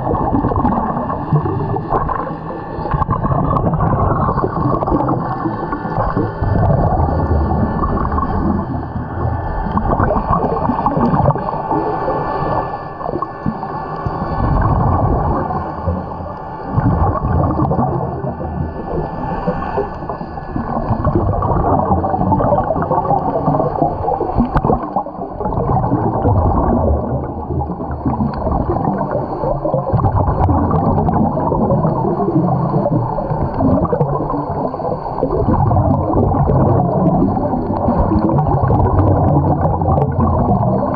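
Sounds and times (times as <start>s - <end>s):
muffled underwater rumble: 0.0s - 40.9s
scuba bubbles gurgling: 0.0s - 40.9s.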